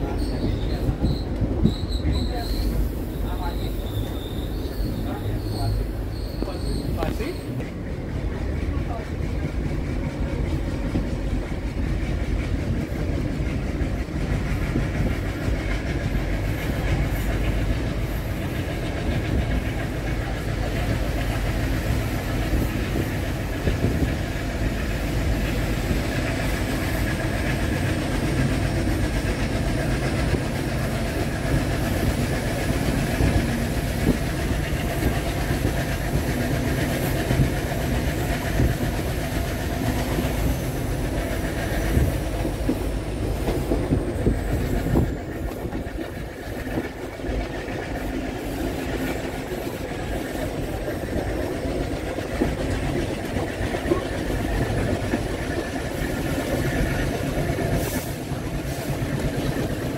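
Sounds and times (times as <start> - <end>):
diesel locomotives chugging: 0.0 - 59.9
wheels clicking over rail joints: 5.2 - 59.9.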